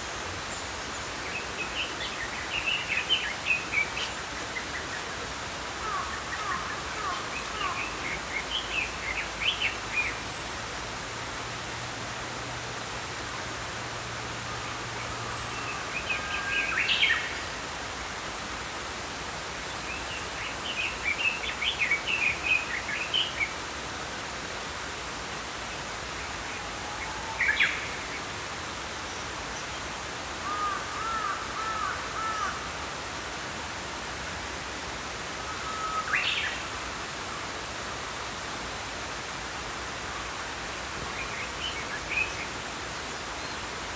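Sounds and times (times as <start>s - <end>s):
flowing brook: 0.0s - 43.9s.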